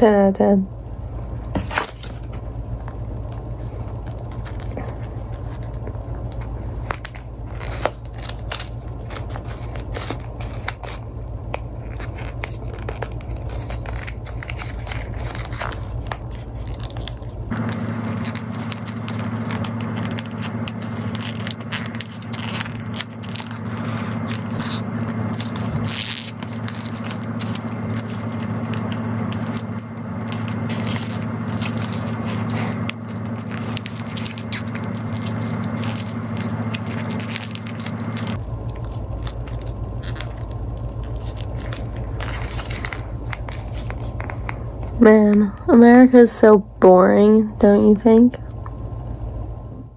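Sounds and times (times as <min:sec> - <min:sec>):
low hum: 0:00.0 - 0:49.9
hands handling plastic object: 0:01.5 - 0:45.0.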